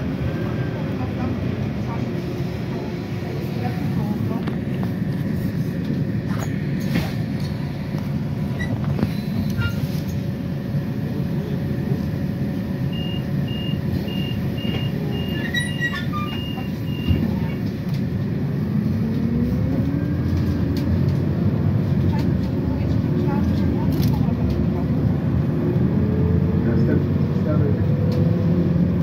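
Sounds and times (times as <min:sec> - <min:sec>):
bus engine rumble: 0:00.0 - 0:29.0.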